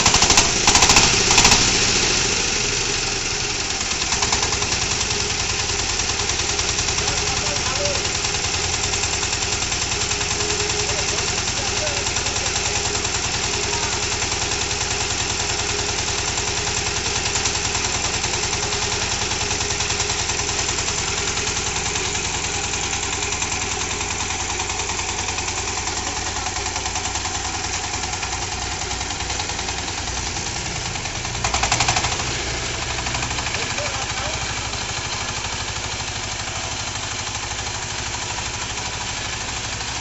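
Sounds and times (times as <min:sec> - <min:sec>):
diesel engine thudding: 0:00.0 - 0:40.0.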